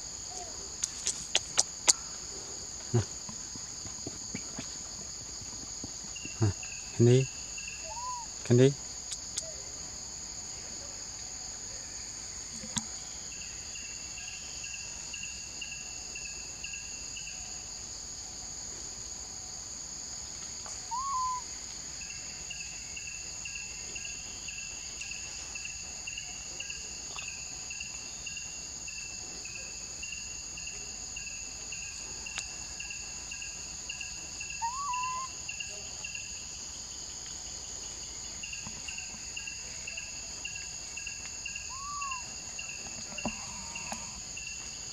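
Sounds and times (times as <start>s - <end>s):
insect chorus: 0.0s - 44.9s.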